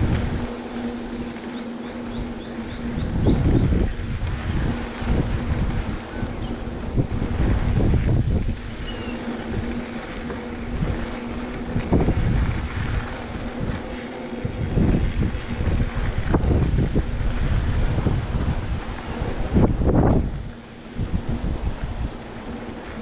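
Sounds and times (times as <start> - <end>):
faint steady hum: 0.0 - 23.0
wind buffeting microphone: 0.0 - 23.0.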